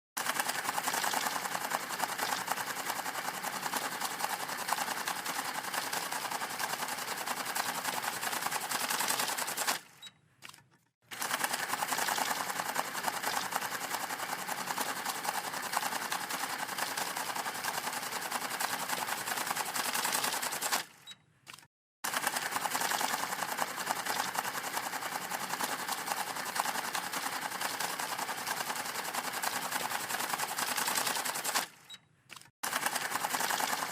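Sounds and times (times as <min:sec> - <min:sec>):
banknote counting machine riffling: 0:00.2 - 0:33.9.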